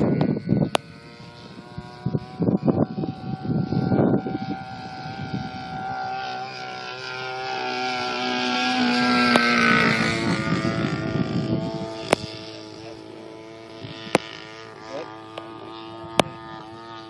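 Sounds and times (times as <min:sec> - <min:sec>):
model plane engine flying past: 0:00.0 - 0:17.0.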